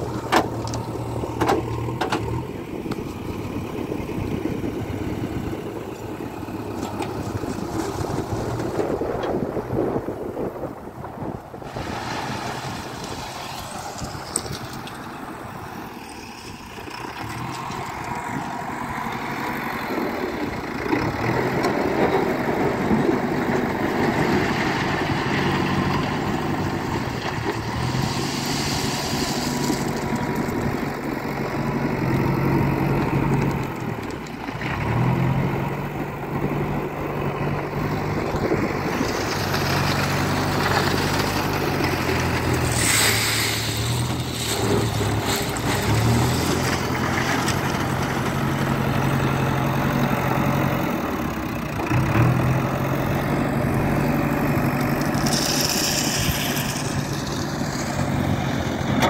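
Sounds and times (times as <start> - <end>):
diesel engine working under load: 0.0 - 59.0.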